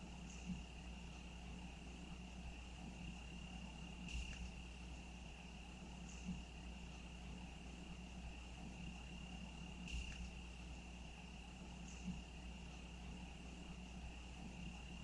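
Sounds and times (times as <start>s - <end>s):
crickets trilling: 0.0s - 15.0s
faint low hum: 0.0s - 15.0s.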